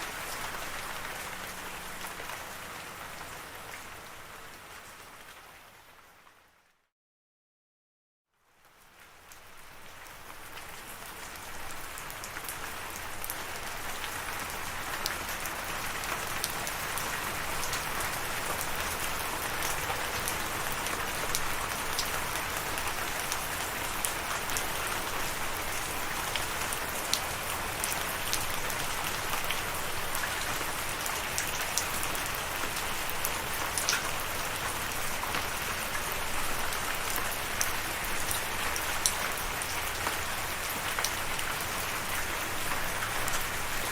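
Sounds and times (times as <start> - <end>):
steady rain falling: 0.0 - 6.8, 8.4 - 43.9.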